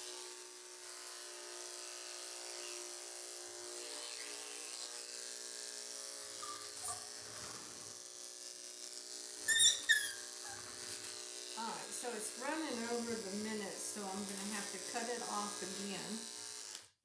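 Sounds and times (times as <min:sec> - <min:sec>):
electric clippers humming: 0:00.0 - 0:17.0.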